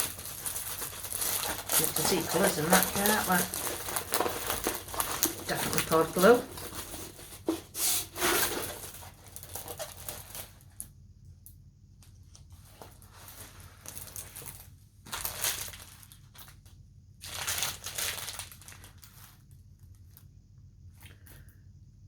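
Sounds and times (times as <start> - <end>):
plastic packaging crinkling: 0.0 - 10.9, 12.2 - 20.3.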